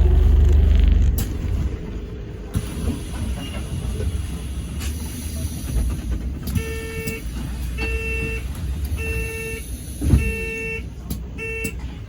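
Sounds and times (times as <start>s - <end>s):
bus engine rumble with rattles: 0.0s - 12.0s.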